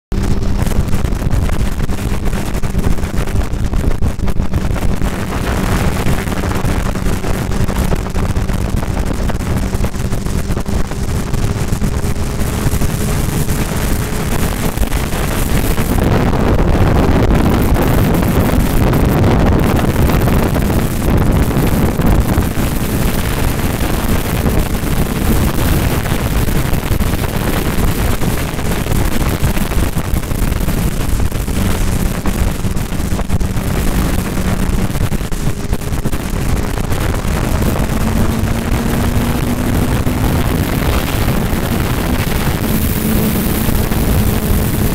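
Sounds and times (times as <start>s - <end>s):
wind rush over microphone: 0.0s - 44.9s
motorcycle engine cruising: 0.1s - 44.9s.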